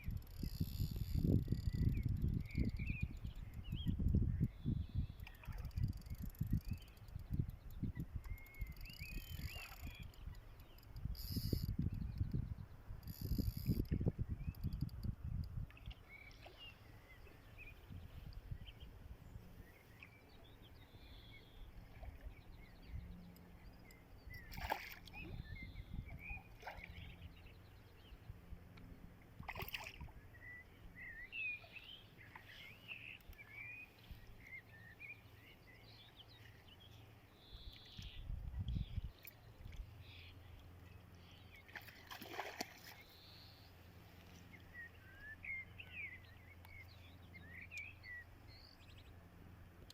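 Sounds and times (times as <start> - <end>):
small birds chirping: 0.0 - 28.8, 29.5 - 49.2.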